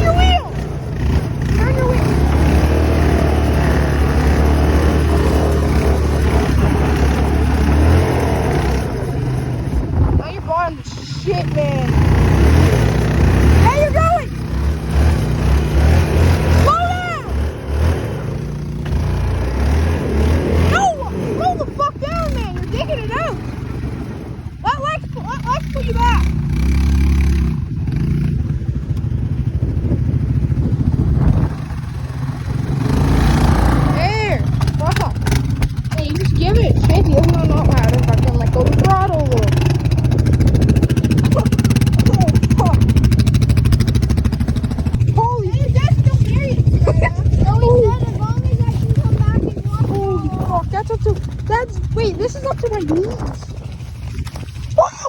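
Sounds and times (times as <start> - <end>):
off-road vehicle engine under load: 0.0 - 55.0.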